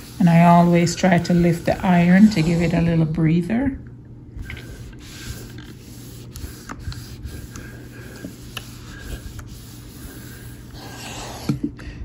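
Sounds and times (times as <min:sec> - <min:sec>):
iron rubbing on paper: 0:00.0 - 0:03.0, 0:04.4 - 0:11.4
low steady hum: 0:00.0 - 0:12.0.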